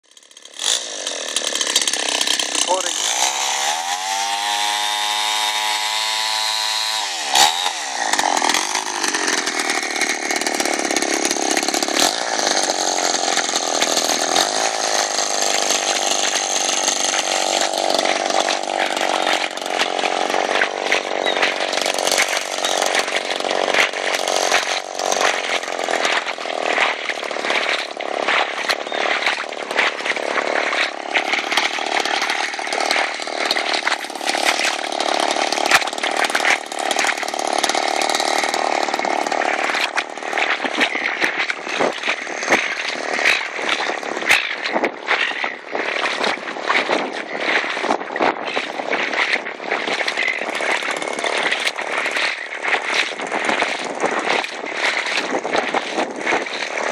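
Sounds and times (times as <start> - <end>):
two-stroke engine running hard: 0.0 - 56.9.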